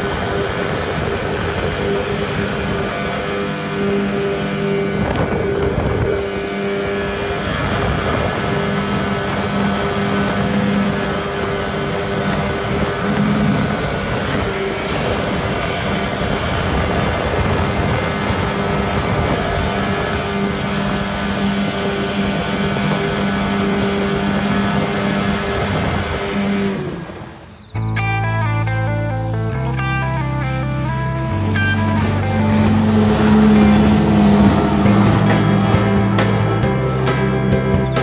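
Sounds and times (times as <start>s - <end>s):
water rushing under hull: 0.0s - 27.6s, 30.7s - 38.0s
outboard motors droning: 0.0s - 38.0s.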